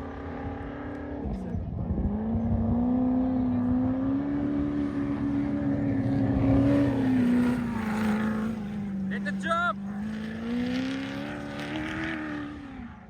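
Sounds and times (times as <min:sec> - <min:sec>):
vehicle engine revving high: 0:00.0 - 0:13.0.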